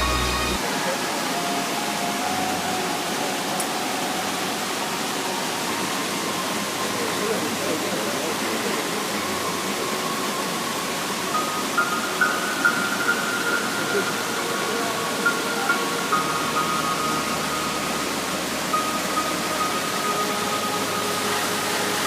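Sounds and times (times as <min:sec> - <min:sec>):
faint tone: 0:00.0 - 0:22.0
waterfall rushing: 0:00.0 - 0:22.0.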